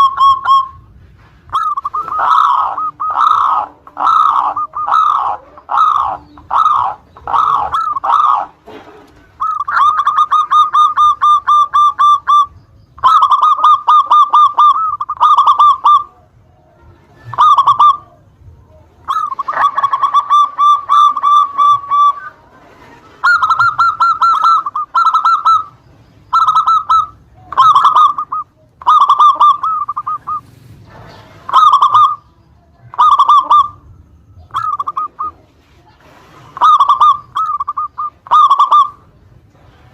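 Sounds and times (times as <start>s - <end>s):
dove rapid high cooing: 0.0s - 39.9s.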